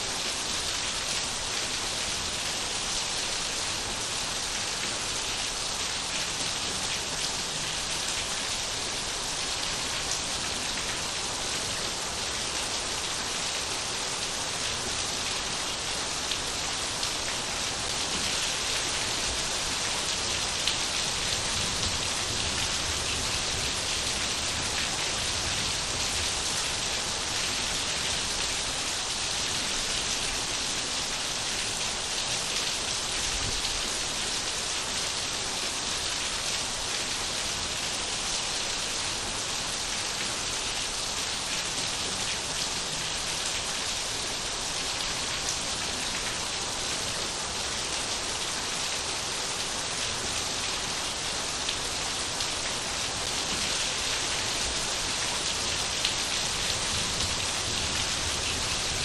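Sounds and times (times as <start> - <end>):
rain pattering on surfaces: 0.3 - 59.0.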